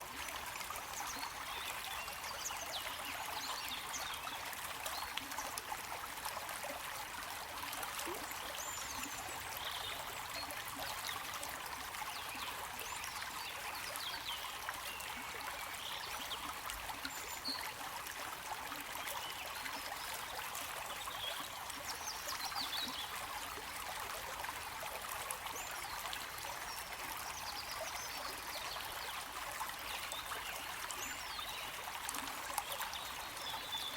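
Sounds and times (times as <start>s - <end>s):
water trickling and bubbling: 0.0s - 33.9s.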